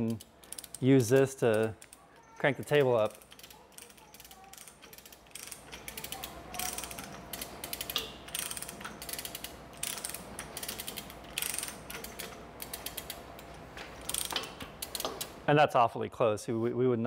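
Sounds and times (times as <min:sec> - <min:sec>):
chain rattle: 0:00.0 - 0:15.2
chain hoist ratchet clicks: 0:00.0 - 0:15.4.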